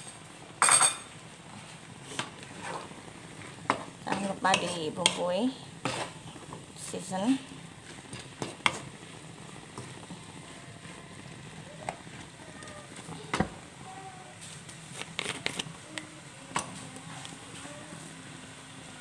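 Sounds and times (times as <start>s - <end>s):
food crackling in a wok: 0.0s - 19.0s.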